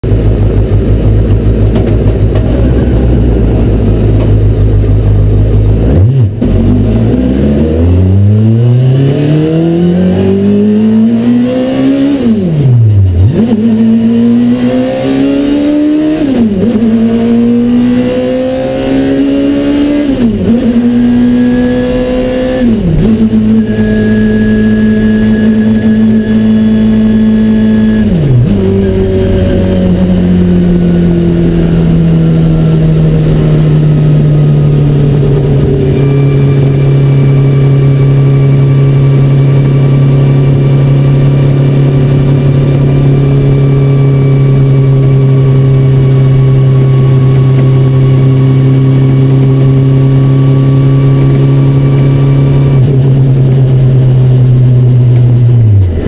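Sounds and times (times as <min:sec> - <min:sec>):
motorcycle engine revving and shifting: 0:00.0 - 0:56.0.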